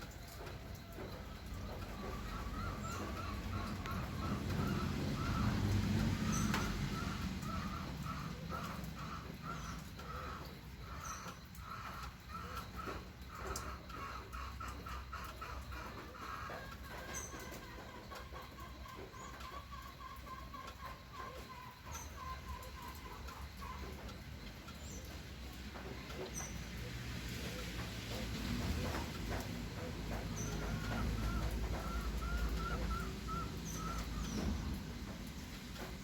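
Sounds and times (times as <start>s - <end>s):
birds calling: 0.0s - 36.0s.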